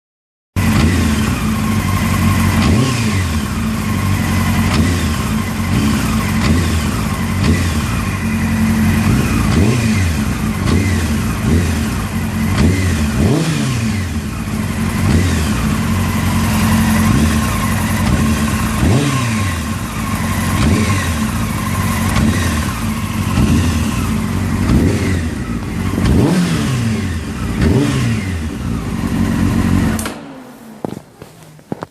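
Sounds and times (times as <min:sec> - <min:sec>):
engine rattle: 0:00.6 - 0:31.9
motorcycle engine revving: 0:00.6 - 0:31.9.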